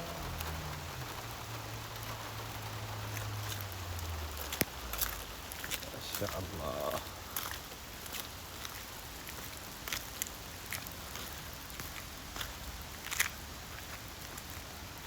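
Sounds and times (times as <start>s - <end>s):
rain hissing: 0.0s - 15.0s
raindrops tapping: 0.0s - 15.0s.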